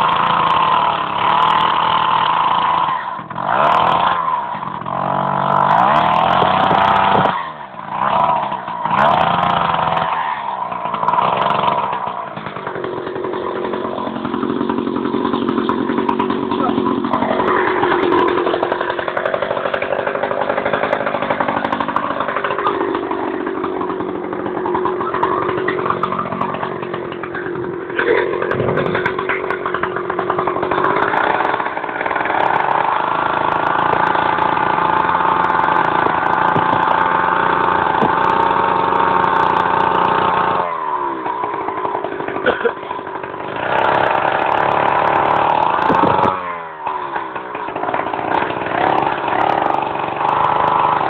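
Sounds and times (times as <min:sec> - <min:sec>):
chainsaw cutting: 0:00.0 - 0:51.0.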